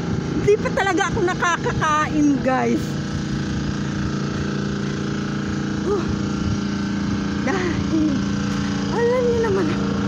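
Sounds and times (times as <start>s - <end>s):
steady engine drone: 0.0s - 10.0s.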